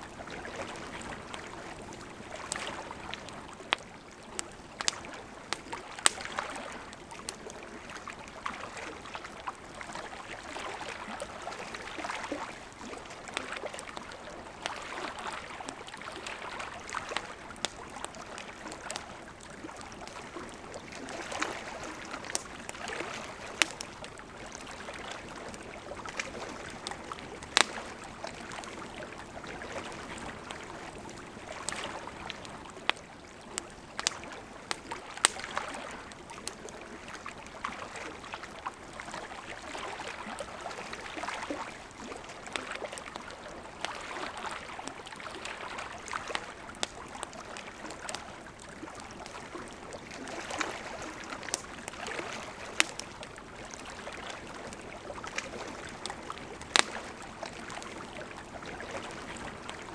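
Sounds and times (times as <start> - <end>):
campfire crackling and popping: 0.1 - 59.9.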